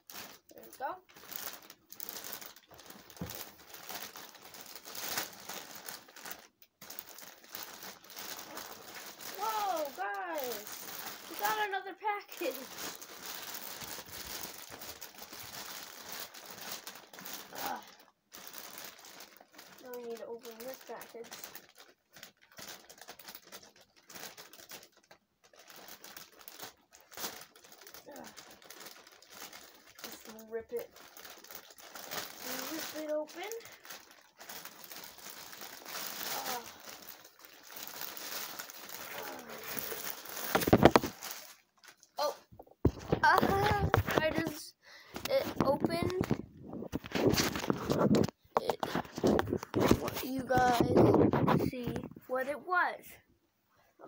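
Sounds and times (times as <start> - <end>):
plastic mailing bag crinkling: 0.0 - 52.4.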